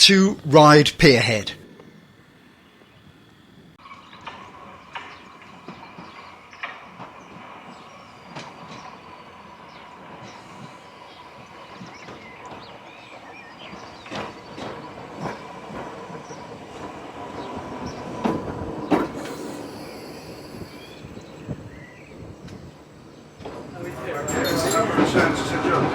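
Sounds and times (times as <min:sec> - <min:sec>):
high steady train whine: 0:01.9 - 0:25.9.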